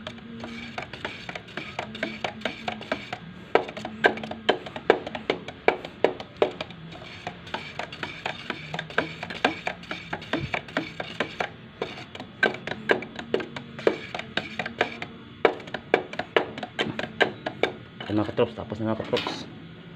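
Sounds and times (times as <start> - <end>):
stick knocking on metal can: 0.0 - 17.8.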